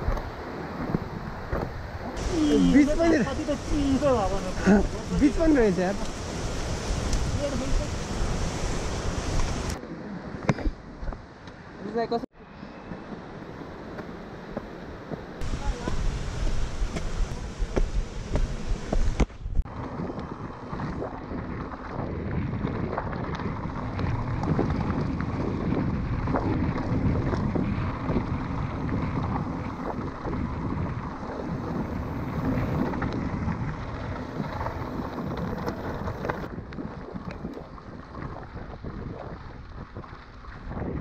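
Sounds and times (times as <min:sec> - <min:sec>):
bike tyres crunching on dirt trail: 0:00.0 - 0:09.8, 0:12.9 - 0:41.0
wind buffeting microphone: 0:00.0 - 0:09.8, 0:14.6 - 0:41.0.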